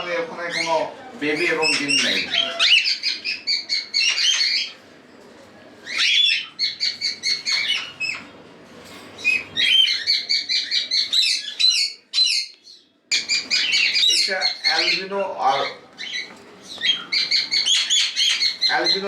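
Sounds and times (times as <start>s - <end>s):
cockatiels chirping: 0.4s - 4.8s, 5.8s - 8.3s, 9.2s - 19.0s.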